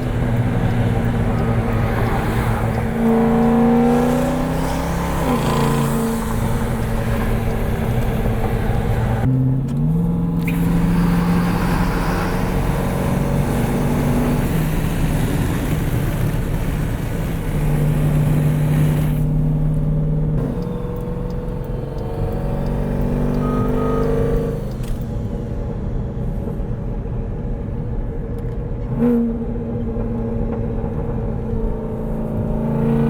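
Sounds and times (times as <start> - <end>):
engine running and shifting: 0.0 - 33.0.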